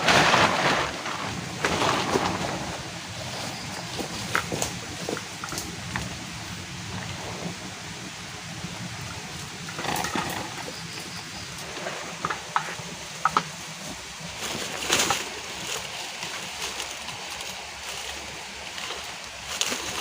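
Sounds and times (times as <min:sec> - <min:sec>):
rain hiss: 0:00.0 - 0:20.0
water splashing: 0:00.0 - 0:20.0.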